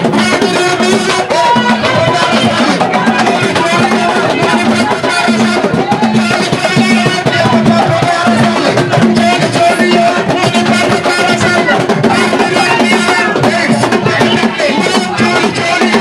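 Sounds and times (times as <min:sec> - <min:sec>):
music with drums and percussion: 0:00.0 - 0:16.0.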